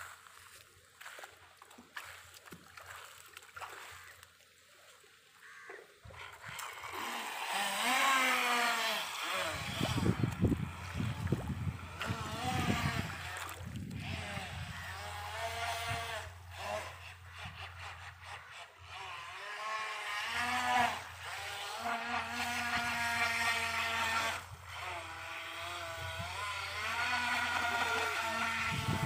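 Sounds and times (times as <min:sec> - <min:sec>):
toy speedboat motor whining: 0:05.5 - 0:29.0.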